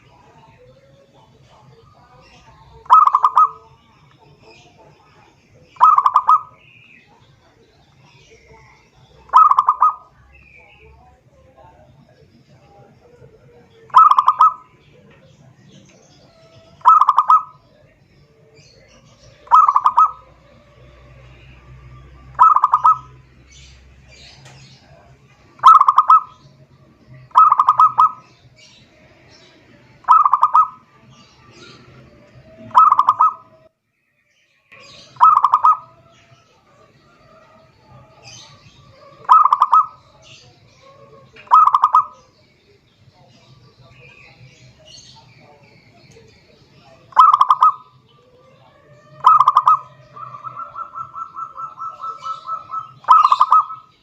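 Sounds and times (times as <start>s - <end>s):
dove cooing: 0.0s - 10.2s, 11.6s - 26.5s, 27.2s - 28.4s, 30.0s - 33.7s, 34.8s - 42.4s, 46.9s - 54.0s.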